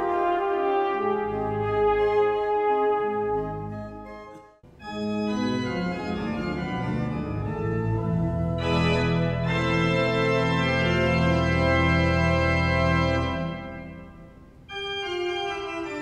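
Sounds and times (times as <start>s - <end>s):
pipe organ sustained chords: 0.0s - 16.0s
trumpet and pipe organ piece: 0.0s - 16.0s.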